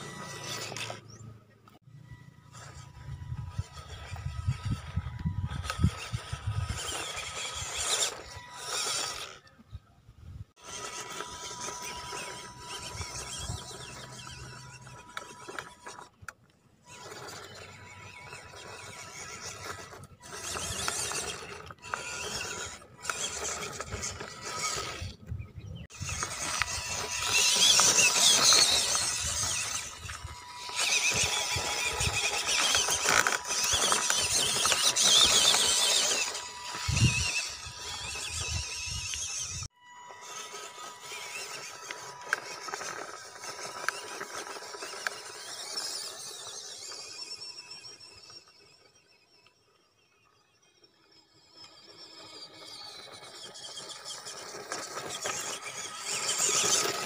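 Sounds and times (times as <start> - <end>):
electric motor whining: 0.0 - 9.8, 10.6 - 57.0.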